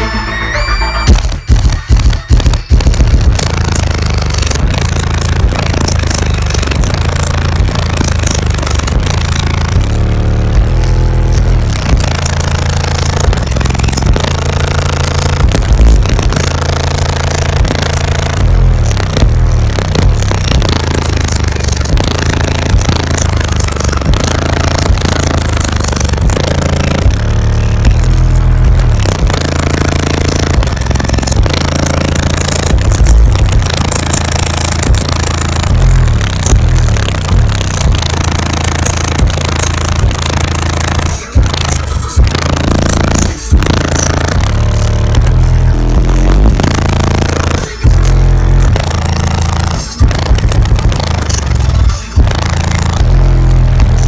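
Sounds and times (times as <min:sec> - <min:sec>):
loud bass music: 0:00.0 - 0:54.0.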